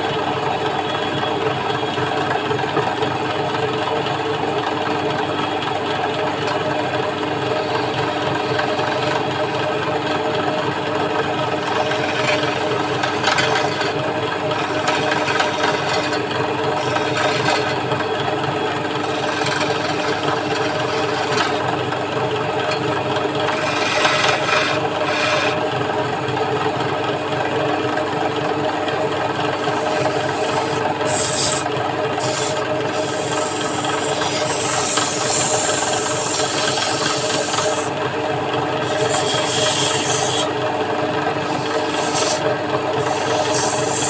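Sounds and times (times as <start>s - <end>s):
wood lathe humming: 2.1s - 44.0s
hand tool scraping spinning wood: 5.8s - 27.0s, 28.0s - 44.0s.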